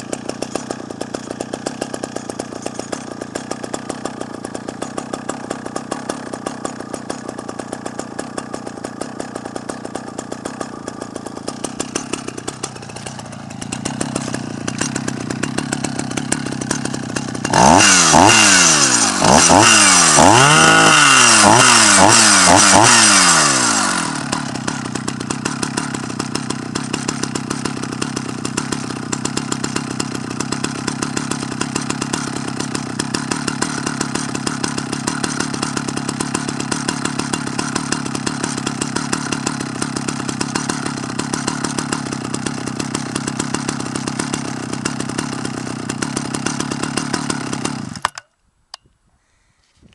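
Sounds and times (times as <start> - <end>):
chainsaw idling and revving: 0.0 - 49.5.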